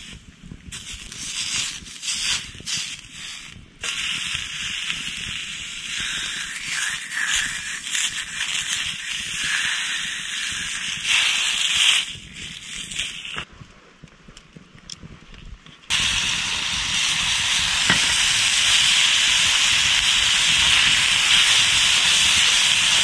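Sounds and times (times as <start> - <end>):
bacon sizzling on griddle: 0.7 - 13.4, 15.9 - 23.0.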